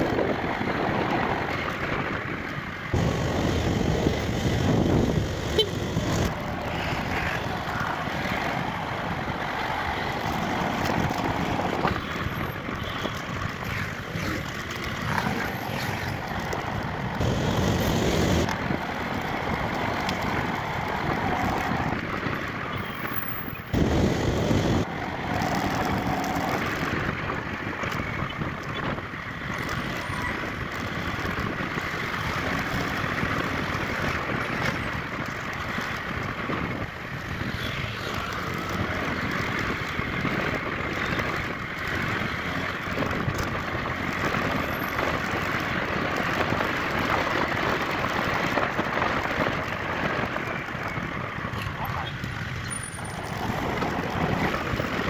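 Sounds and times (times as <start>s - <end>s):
road and wind rushing: 0.0s - 55.0s.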